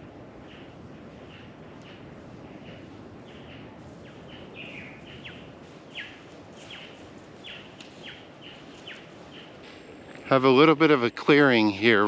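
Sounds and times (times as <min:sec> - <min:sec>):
birds chirping: 0:00.0 - 0:12.0
low background hiss: 0:00.0 - 0:12.0.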